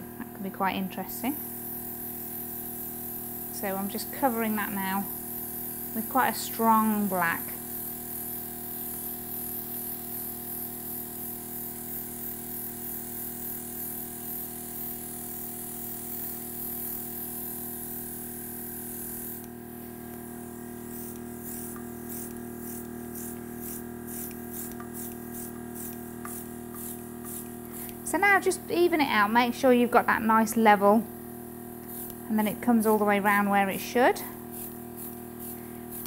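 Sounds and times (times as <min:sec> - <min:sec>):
compressor motor hum: 0:00.0 - 0:36.0
airbrush air hiss: 0:01.1 - 0:36.0.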